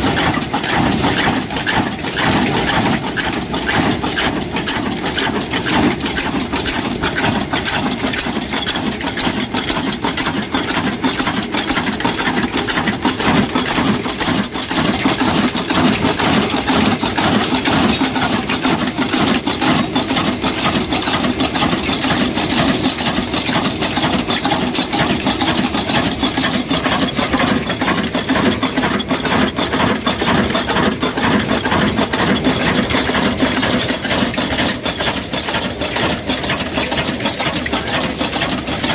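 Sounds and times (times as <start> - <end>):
old stationary engine clattering: 0.0 - 38.9.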